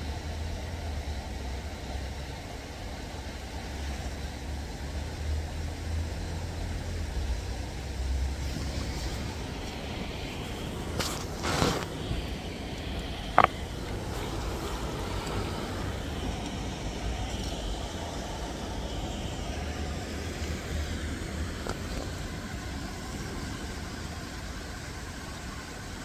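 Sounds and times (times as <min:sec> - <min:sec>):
even hiss: 0:00.0 - 0:26.0.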